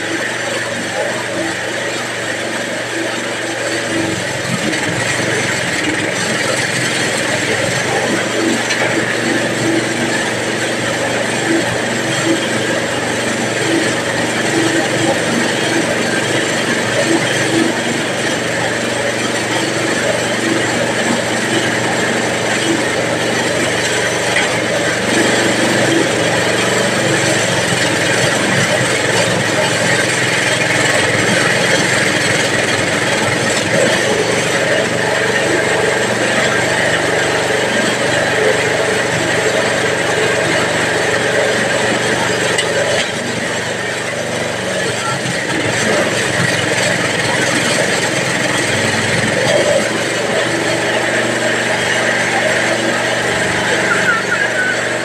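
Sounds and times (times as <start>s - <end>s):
bag-filling machine running: 0.0s - 55.0s.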